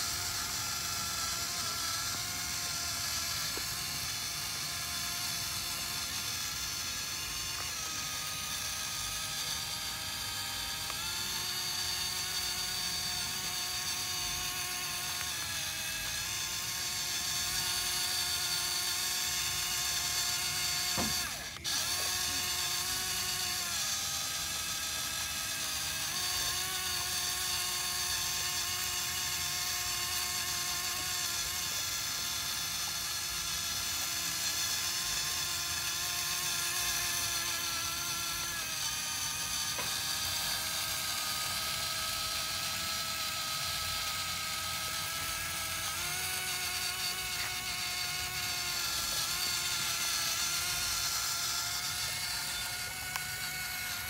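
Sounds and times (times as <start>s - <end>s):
toy electric motor whining: 0.0s - 54.0s.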